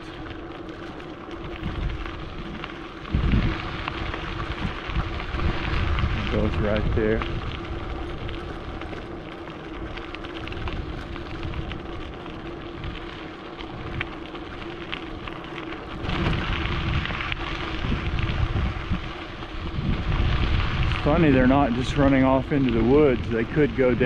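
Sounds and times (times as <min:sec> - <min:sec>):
bicycle tyres on gravel: 0:00.0 - 0:24.0
faint steady hum: 0:00.0 - 0:24.0
wind rush on microphone: 0:00.0 - 0:24.0.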